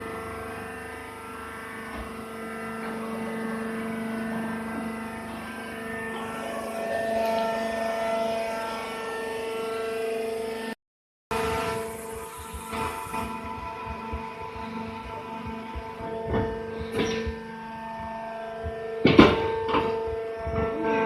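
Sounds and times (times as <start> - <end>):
hydraulic baler press droning: 0.0 - 21.0.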